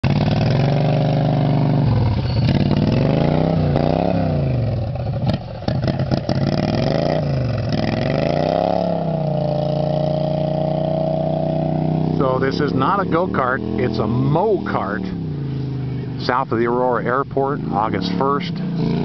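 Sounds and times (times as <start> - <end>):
small engine revving: 0.0 - 19.0.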